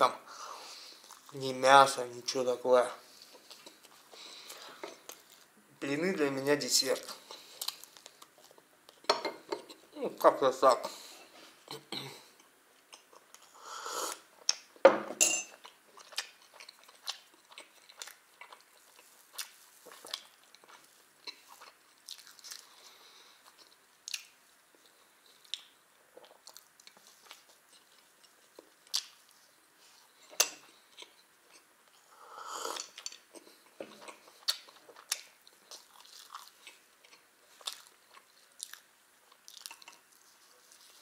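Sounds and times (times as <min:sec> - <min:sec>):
man chewing food: 0:00.6 - 0:01.4, 0:03.1 - 0:05.6, 0:07.0 - 0:09.9, 0:10.9 - 0:14.8, 0:15.5 - 0:41.0.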